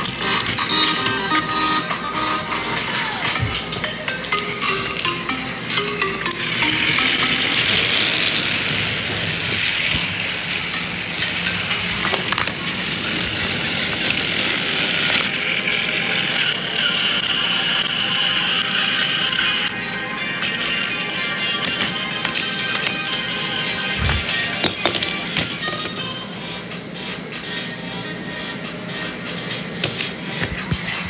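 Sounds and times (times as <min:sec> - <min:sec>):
toy train motor whirring: 0:00.0 - 0:26.6.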